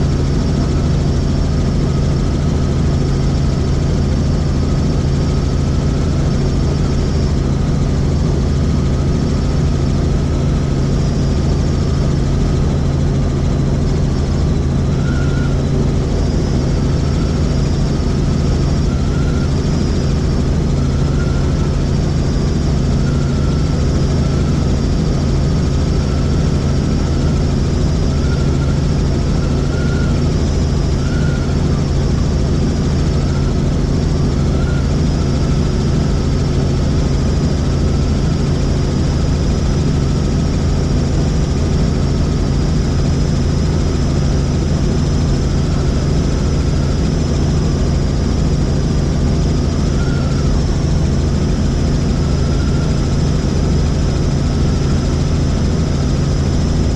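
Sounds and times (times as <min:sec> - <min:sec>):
helicopter rotor drone: 0:00.0 - 0:56.9
high turbine whine: 0:00.0 - 0:56.9.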